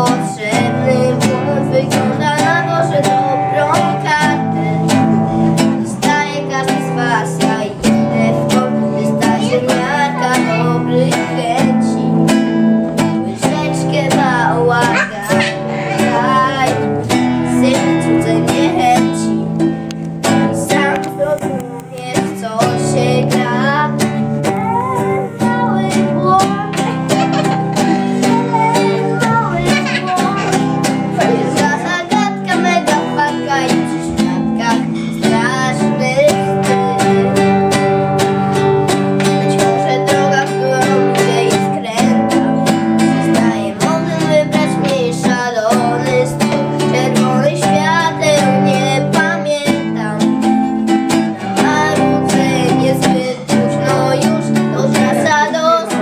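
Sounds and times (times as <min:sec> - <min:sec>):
acoustic guitar strumming: 0:00.0 - 0:56.0
person singing: 0:00.0 - 0:56.0.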